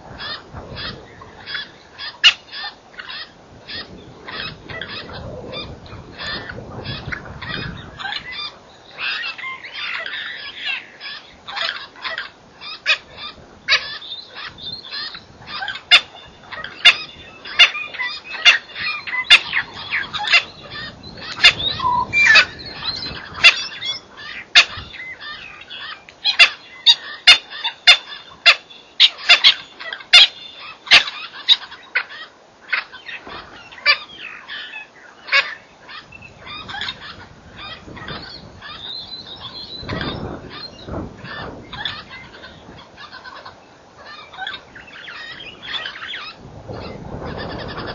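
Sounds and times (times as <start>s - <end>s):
birds chirping and squawking: 0.0s - 47.9s.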